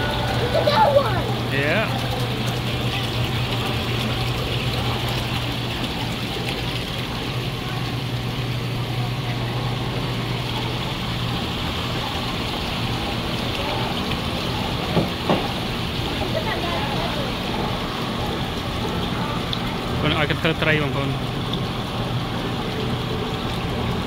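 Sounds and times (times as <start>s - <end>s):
pump hum: 0.0s - 24.0s
water circulating and splashing: 0.0s - 24.0s.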